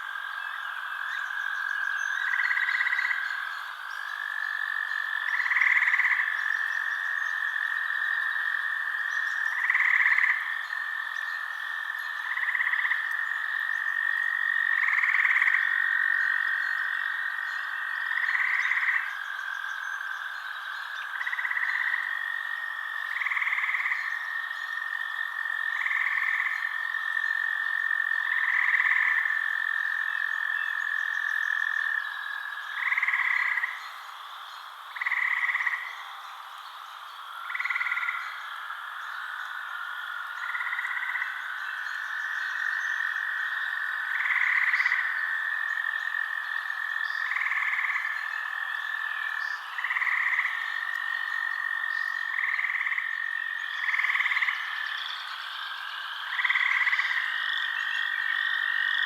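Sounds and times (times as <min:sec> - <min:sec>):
frogs calling: 0:00.0 - 0:59.0.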